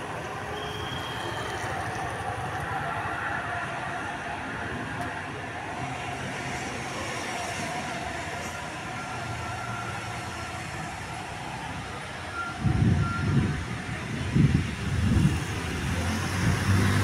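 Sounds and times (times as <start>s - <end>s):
bus engine running: 0.0s - 17.0s
traffic noise: 0.0s - 17.0s.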